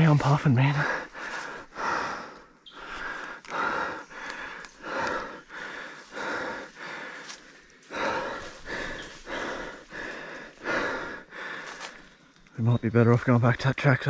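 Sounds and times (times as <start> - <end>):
man breathing hard: 0.7 - 12.4.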